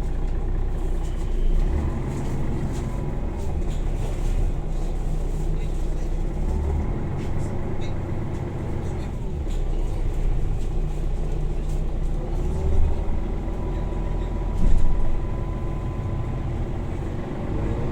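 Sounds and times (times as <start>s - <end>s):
motor vehicle rumble: 0.0s - 17.9s.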